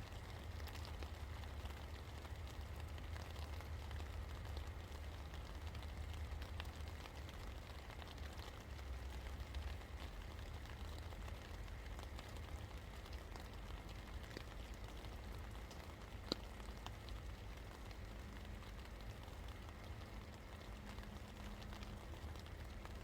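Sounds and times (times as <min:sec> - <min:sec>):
steady rain falling: 0:00.0 - 0:23.0
drops ticking on a surface: 0:00.2 - 0:23.0.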